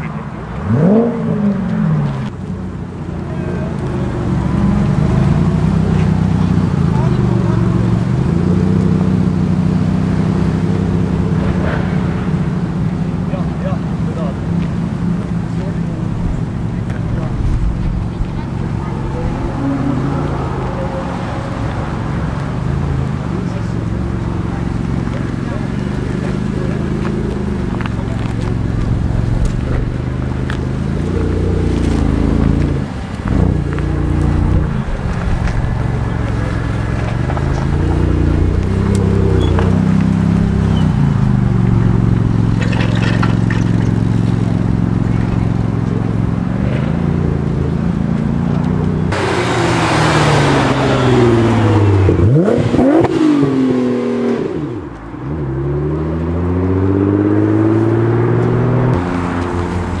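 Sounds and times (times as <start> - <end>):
car engines revving: 0.0 - 60.0
exhaust rush: 0.0 - 60.0.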